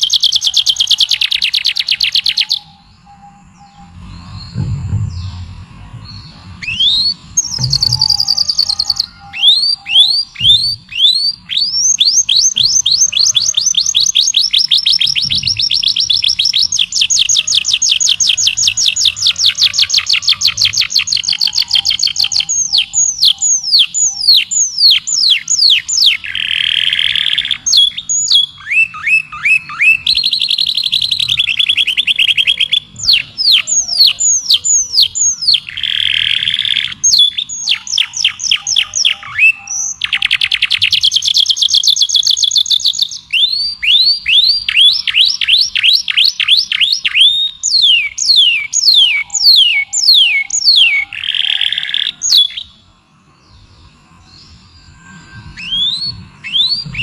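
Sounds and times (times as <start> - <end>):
buzzy bird calls: 0.0 - 57.0
songbird trilling: 0.0 - 57.0.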